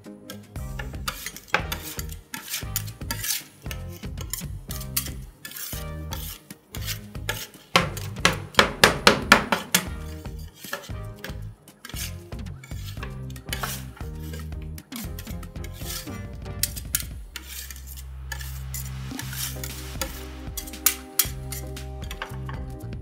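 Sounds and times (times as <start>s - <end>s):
metal spatulas scraping ice cream: 0.3s - 8.6s, 9.5s - 22.4s.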